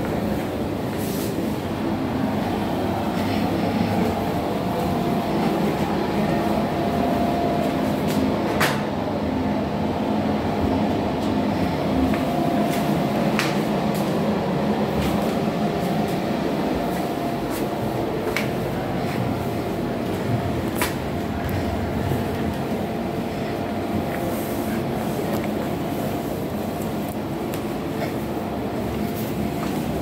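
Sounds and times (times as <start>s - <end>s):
faint hum: 0.0s - 30.0s
low mechanical rumble: 0.0s - 30.0s.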